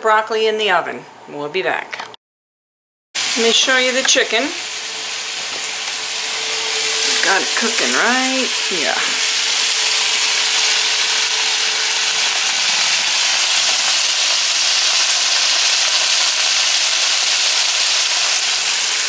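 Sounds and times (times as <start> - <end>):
chicken sizzling in a frying pan: 3.2 - 19.0.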